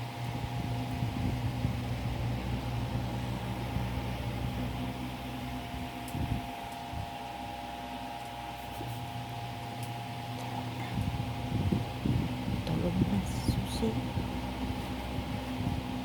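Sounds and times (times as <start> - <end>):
household machine humming: 0.0 - 16.0.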